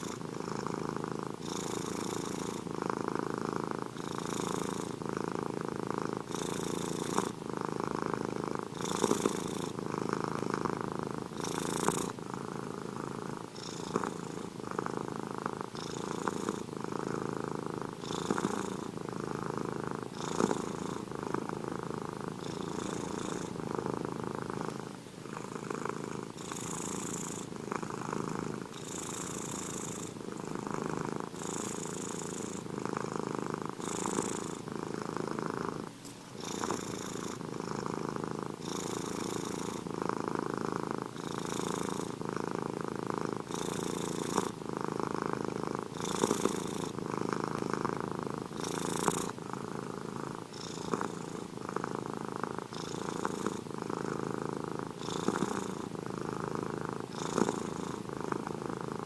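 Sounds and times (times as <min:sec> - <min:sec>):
cat purring close up: 0:00.0 - 0:59.0.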